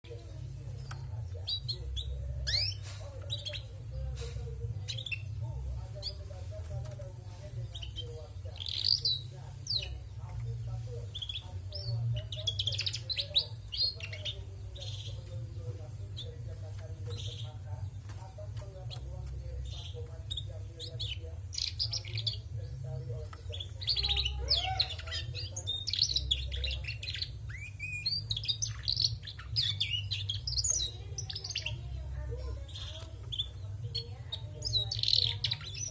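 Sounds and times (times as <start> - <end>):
canary chirping: 0.0 - 35.9.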